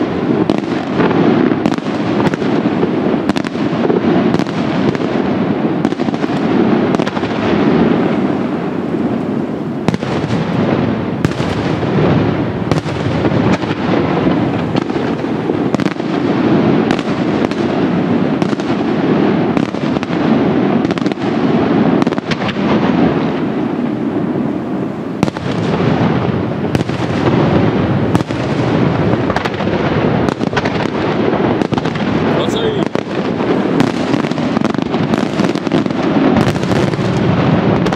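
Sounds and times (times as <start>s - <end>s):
fireworks barrage rumbling: 0.0s - 37.9s
sharp firework reports: 0.0s - 37.9s.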